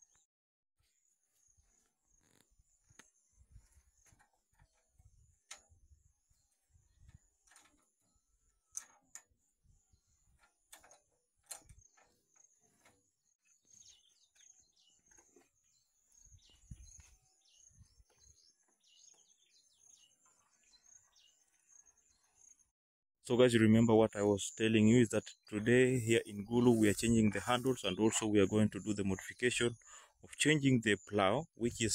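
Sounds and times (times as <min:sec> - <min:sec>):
birds chirping: 0:01.0 - 0:22.7, 0:23.3 - 0:31.9.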